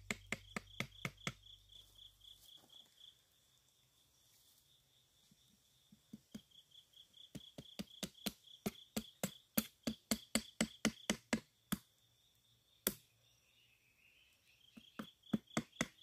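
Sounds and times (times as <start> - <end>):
pulsing insect chirp: 0.0 - 16.0.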